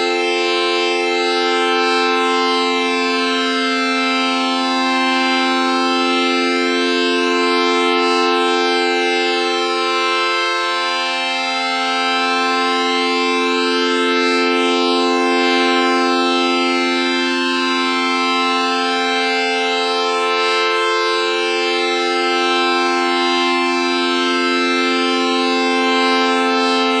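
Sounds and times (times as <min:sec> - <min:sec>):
siren holding multi-tone chord: 0:00.0 - 0:27.0.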